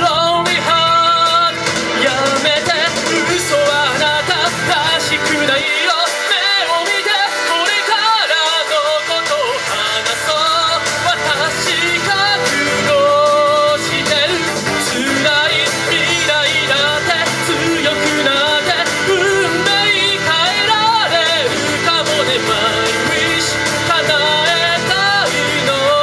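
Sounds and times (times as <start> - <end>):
person singing rock song: 0.0 - 26.0
rock band playing: 0.0 - 26.0
steady drum beat: 0.0 - 26.0.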